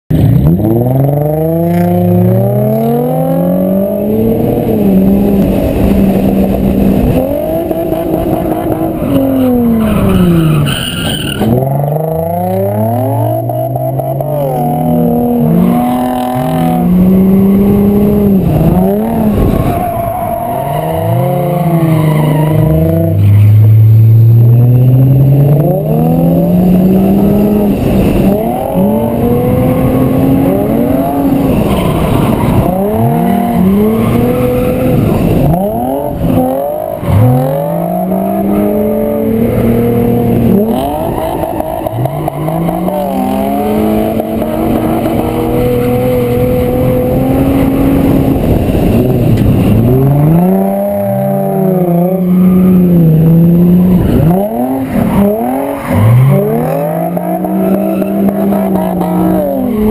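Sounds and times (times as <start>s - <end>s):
car engine revving hard: 0.1s - 59.9s
tires skidding: 0.2s - 59.9s.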